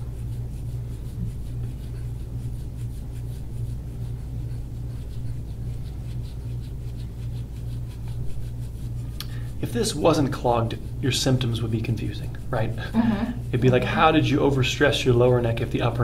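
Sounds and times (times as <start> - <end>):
steady low hum: 0.0 - 16.0
tool scraping over skin: 0.0 - 16.0.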